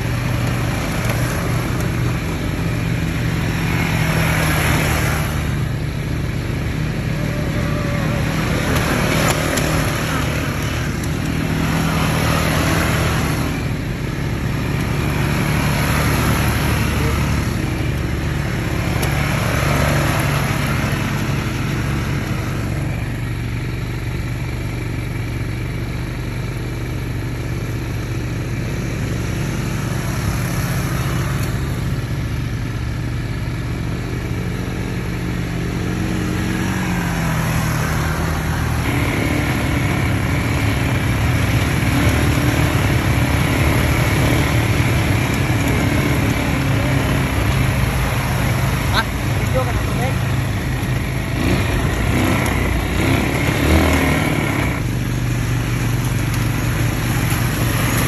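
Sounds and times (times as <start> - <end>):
atv engine humming: 0.0 - 58.0.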